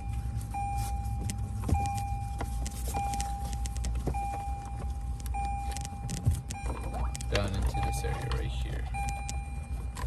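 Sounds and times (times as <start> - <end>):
car warning chime: 0.0 - 10.0.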